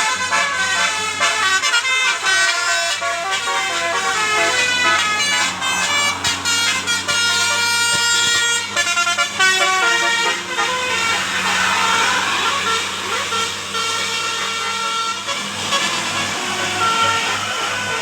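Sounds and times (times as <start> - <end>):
musical air horn melody: 0.0 - 18.0.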